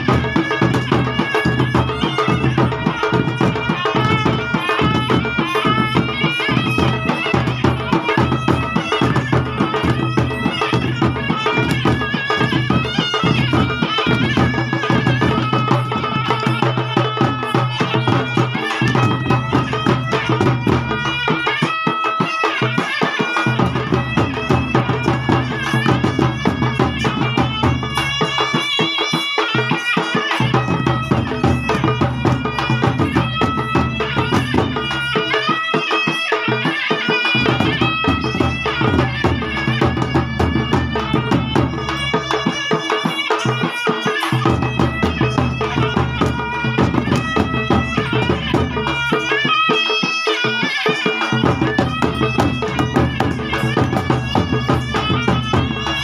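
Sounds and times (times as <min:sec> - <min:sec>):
hand drums beating: 0:00.0 - 0:56.0
shrill reed pipe melody: 0:00.0 - 0:56.0.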